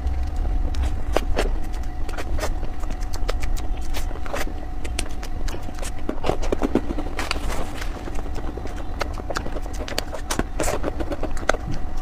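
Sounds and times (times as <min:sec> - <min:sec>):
steady low hum: 0:00.0 - 0:12.0
wet mouth eating sounds: 0:00.0 - 0:12.0.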